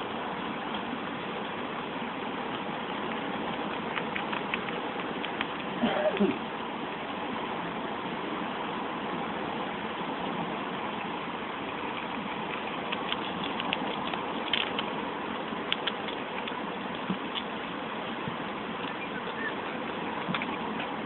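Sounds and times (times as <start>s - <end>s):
rabbits chewing leaves: 0.0s - 7.5s, 9.6s - 21.0s
rushing background noise: 0.0s - 21.0s.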